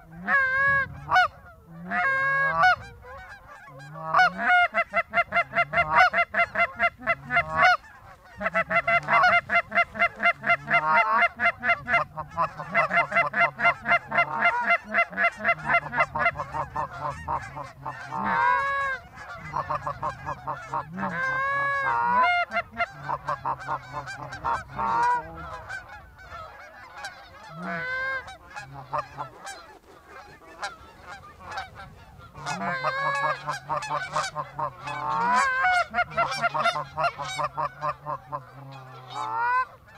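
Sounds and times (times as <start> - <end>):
goose honking and clucking: 0.0 - 39.9.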